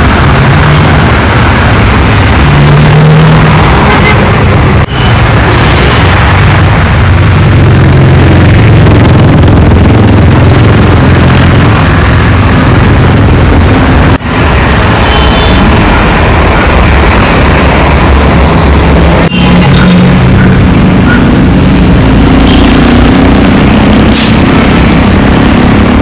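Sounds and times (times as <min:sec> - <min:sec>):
loud car engine: 0:00.0 - 0:26.0.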